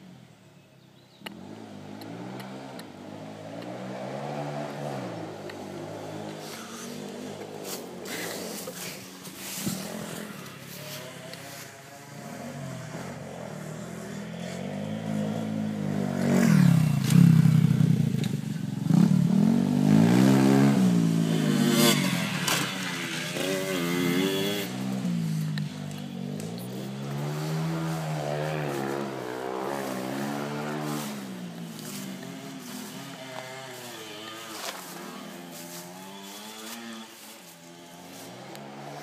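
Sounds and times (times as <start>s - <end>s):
pit bike engine revving: 1.2s - 39.0s.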